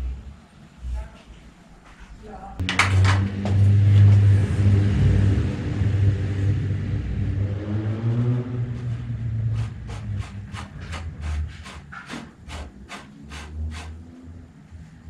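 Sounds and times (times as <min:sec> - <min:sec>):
low motor rumble: 0:02.4 - 0:15.0.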